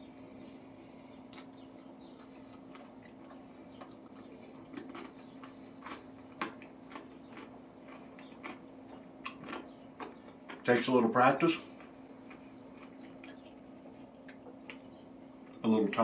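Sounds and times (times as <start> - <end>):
chewing crispy fried chicken: 0.1 - 15.7.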